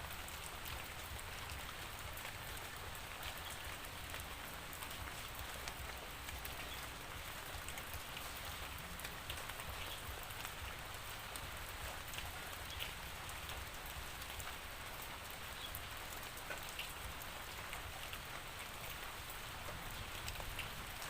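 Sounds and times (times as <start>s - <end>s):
raindrops ticking on a surface: 0.0s - 21.0s.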